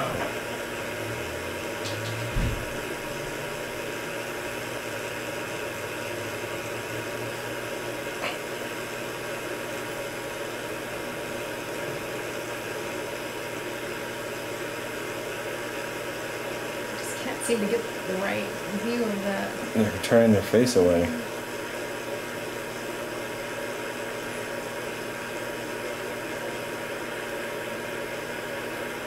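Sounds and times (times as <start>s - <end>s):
fan hum and hiss: 0.0s - 29.0s.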